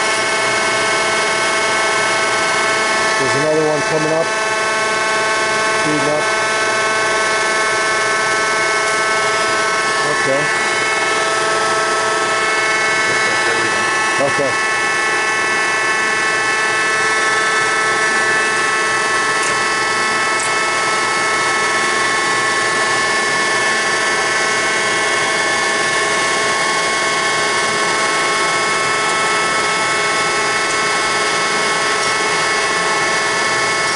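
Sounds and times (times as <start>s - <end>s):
bandsaw whining: 0.0s - 33.9s.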